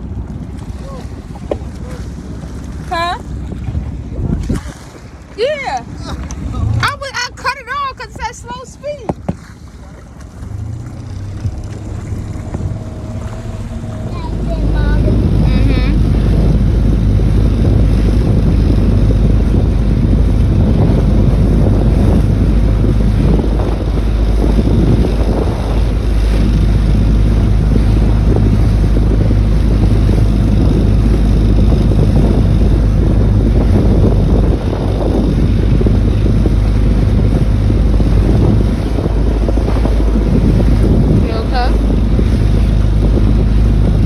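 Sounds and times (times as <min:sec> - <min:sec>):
boat motor: 0:00.0 - 0:44.0
water noise: 0:00.0 - 0:44.0
wind buffeting microphone: 0:00.0 - 0:44.0.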